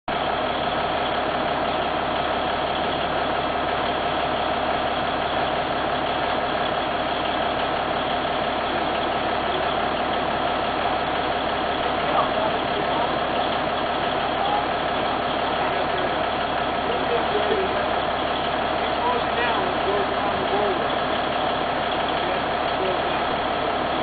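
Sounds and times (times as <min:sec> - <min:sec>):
chairlift machinery droning: 0:00.1 - 0:24.0.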